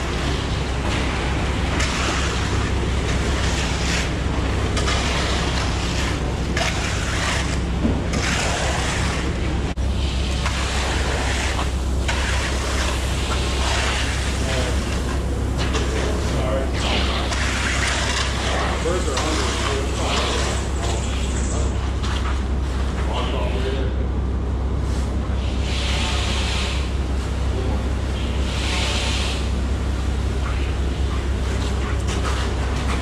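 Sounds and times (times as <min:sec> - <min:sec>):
low engine drone: 0:00.0 - 0:33.0.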